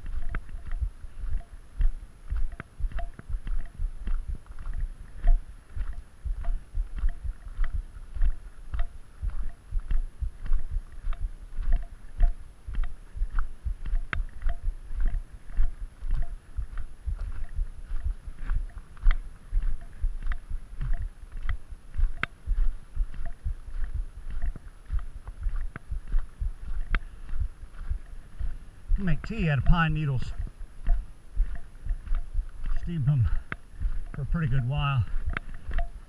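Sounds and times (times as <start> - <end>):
footsteps crunching on gravel: 0.0 - 36.0.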